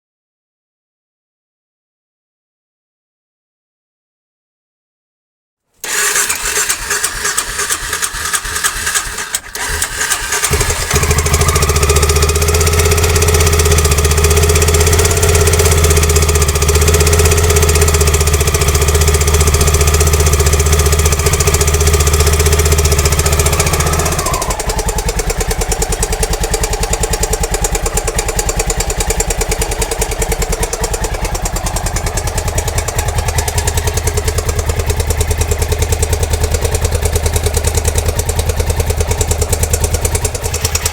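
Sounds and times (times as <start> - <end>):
motorcycle engine clacking: 5.8 - 40.9.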